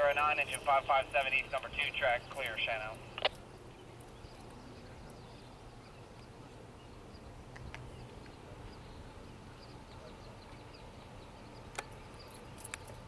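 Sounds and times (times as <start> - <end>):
birds chirping: 0.0 - 13.0
locomotive low rumble: 0.0 - 13.0.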